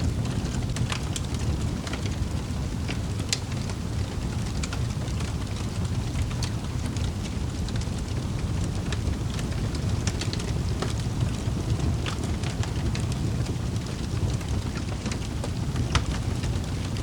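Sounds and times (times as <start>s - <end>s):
fire pops and snaps: 0.0s - 17.0s
low rumble of burning flames: 0.0s - 17.0s.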